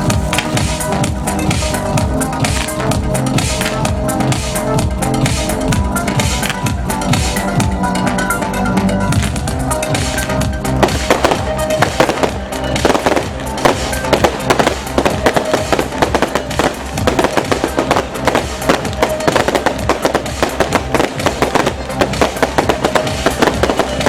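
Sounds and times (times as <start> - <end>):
fireworks bursting and crackling: 0.0 - 8.2, 9.0 - 24.0
loud electronic music: 0.0 - 24.0.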